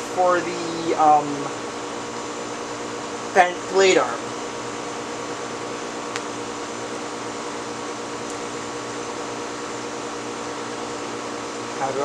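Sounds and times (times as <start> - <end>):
ceiling fan running: 0.0 - 12.0.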